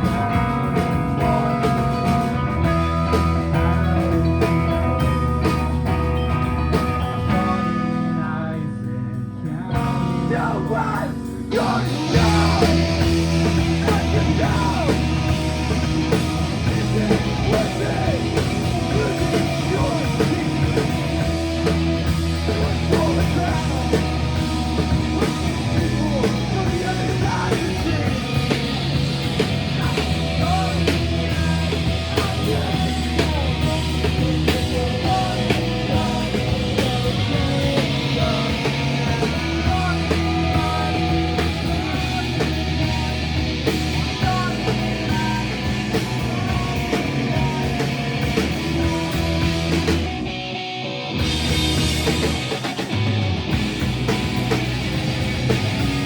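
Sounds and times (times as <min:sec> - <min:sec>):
electric guitar: 0:00.0 - 0:56.0
live rock band playing: 0:00.0 - 0:56.0.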